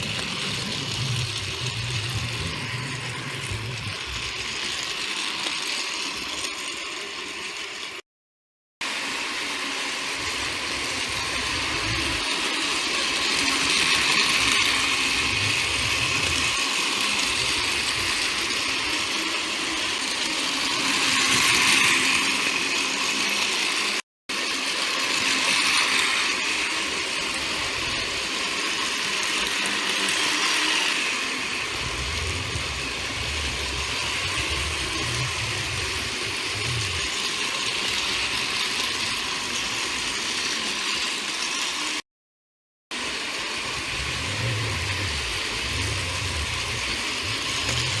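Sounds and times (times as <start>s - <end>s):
toy train motor whirring: 0.0s - 8.0s, 8.8s - 42.0s, 42.9s - 48.0s.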